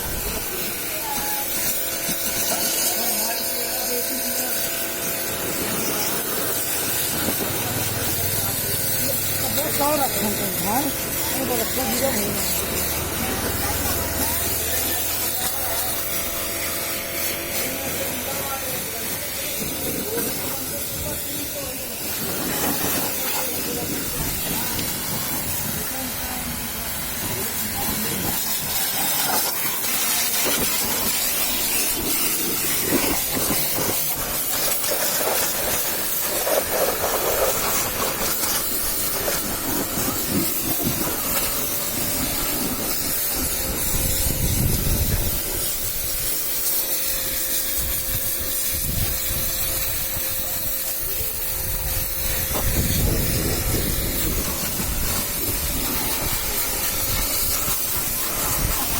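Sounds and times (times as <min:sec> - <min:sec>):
pressure washer spraying water: 0:00.0 - 0:58.9.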